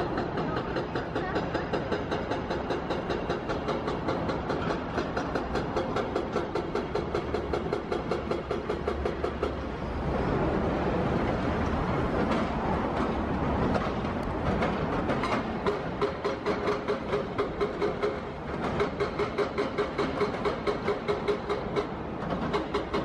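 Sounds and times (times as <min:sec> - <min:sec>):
train rumble: 0:00.0 - 0:23.0
train wheels clacking on rails: 0:00.0 - 0:23.0.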